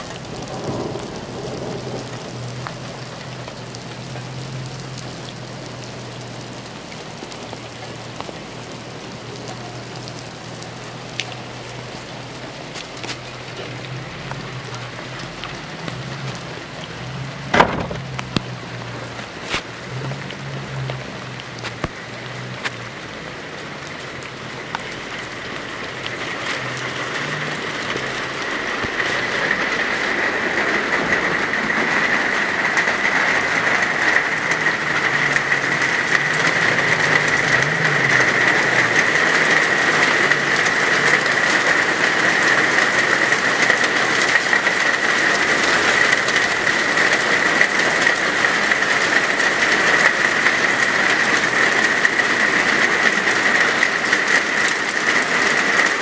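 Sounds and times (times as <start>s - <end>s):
rain: 0.0s - 56.0s.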